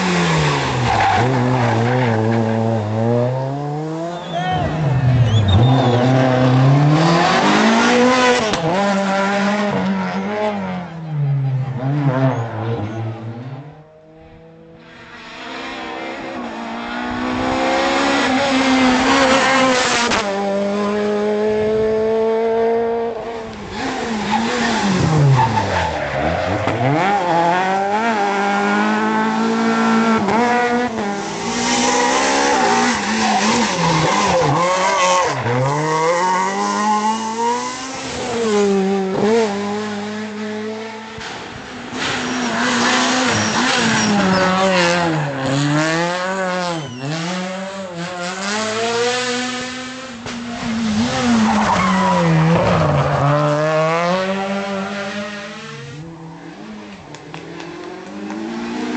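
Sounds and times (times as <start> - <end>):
rally car engines revving: 0.0 - 58.9.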